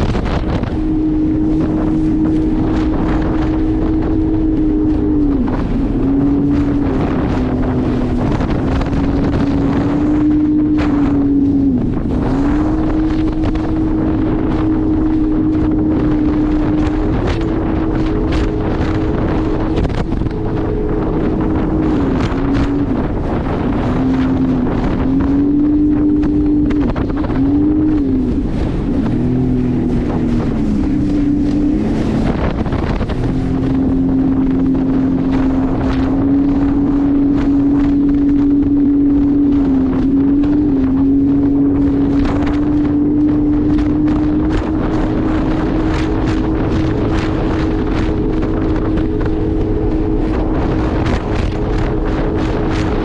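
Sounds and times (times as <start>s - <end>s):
jet ski engine running: 0.0s - 53.0s
wind noise on microphone: 0.0s - 53.0s.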